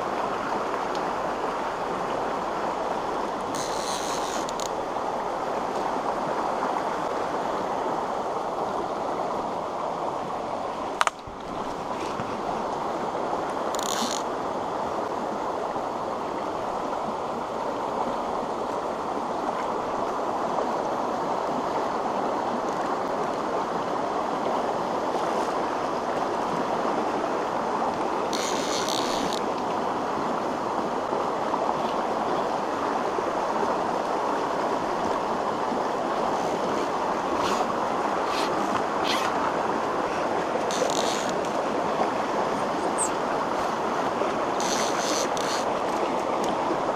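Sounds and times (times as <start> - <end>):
stream running over rocks: 0.0 - 46.9.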